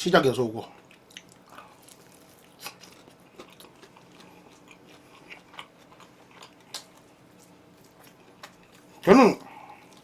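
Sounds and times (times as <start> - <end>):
chewing crispy chicken: 0.6 - 10.0.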